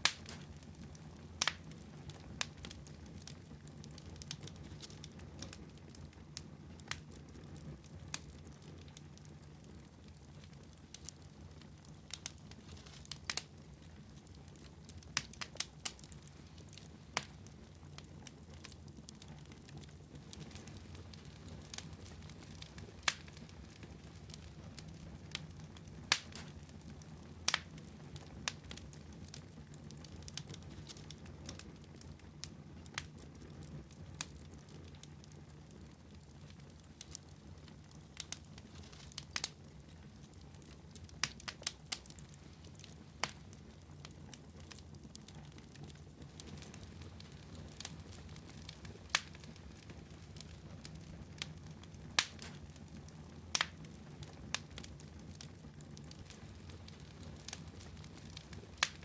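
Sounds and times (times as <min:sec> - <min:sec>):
fire low rumble: 0:00.0 - 0:59.0
wood fire crackles and pops: 0:00.0 - 0:59.0.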